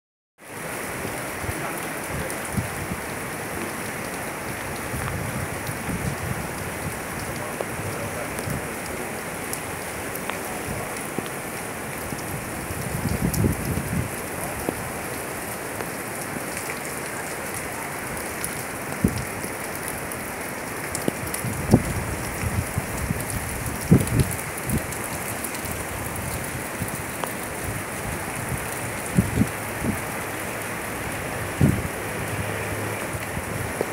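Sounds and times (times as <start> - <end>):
heavy rain falling: 0.4 - 33.9.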